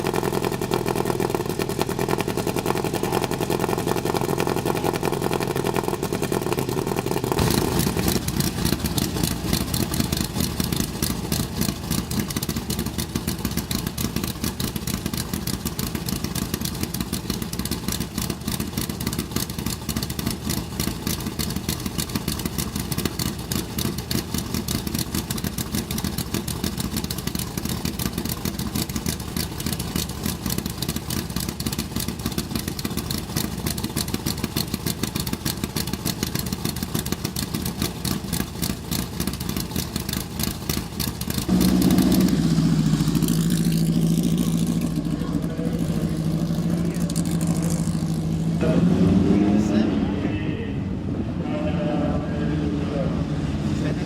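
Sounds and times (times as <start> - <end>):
race car engine running loudly: 0.0 - 54.0.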